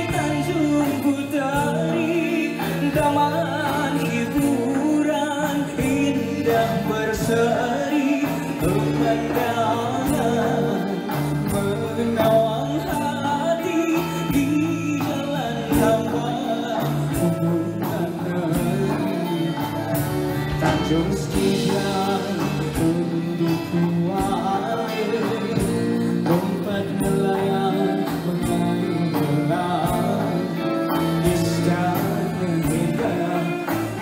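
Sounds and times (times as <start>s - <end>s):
drum kit: 0.0s - 34.0s
keyboards: 0.0s - 34.0s
man singing ornamented vocals: 0.0s - 34.0s.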